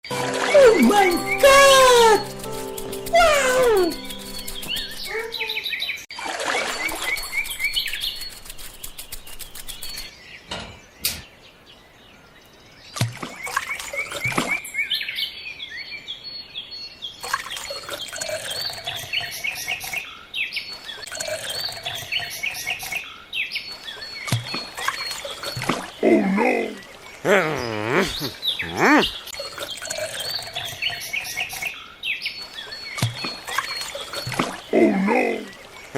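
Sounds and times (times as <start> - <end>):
small birds chirping: 0.9 - 35.9.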